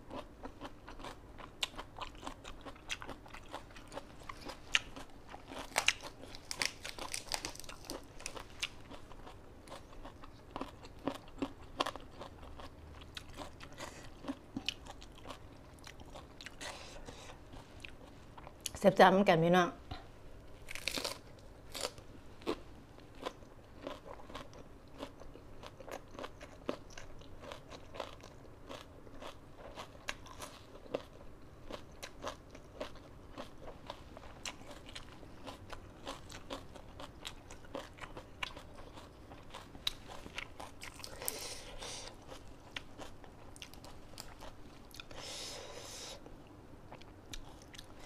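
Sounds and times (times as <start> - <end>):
crunching raw vegetables: 0.0 - 16.6, 20.6 - 45.2.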